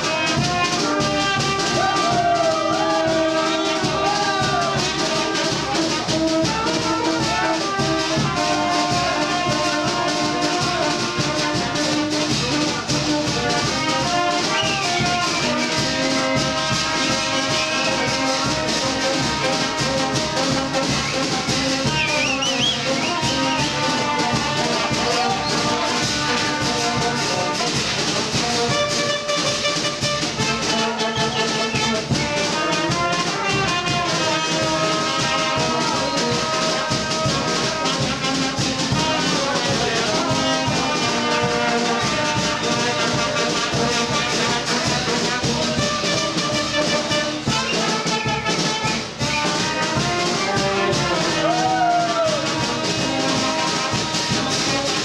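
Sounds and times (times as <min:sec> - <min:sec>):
tuba bass line: 0:00.0 - 0:51.4
brass band playing dance music: 0:00.0 - 0:55.0.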